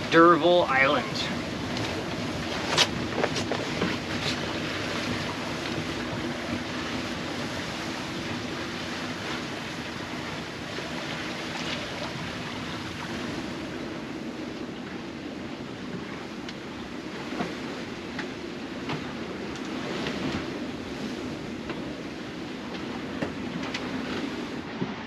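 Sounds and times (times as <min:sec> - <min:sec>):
water washing along a hull: 0:00.0 - 0:25.0.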